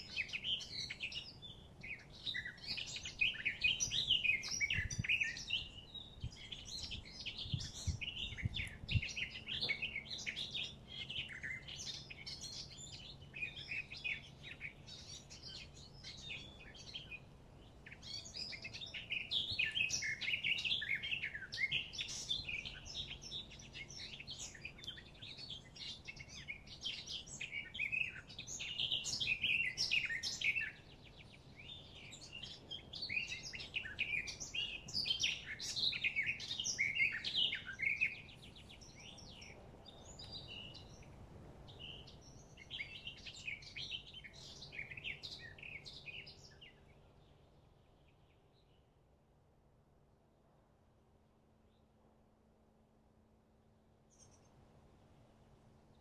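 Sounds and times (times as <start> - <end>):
songbirds singing and chirping: 0.0 - 49.5, 54.0 - 56.0.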